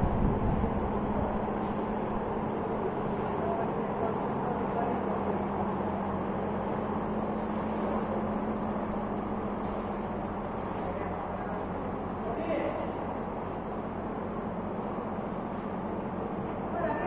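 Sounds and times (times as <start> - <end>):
conveyor belt motor humming: 0.0 - 17.0.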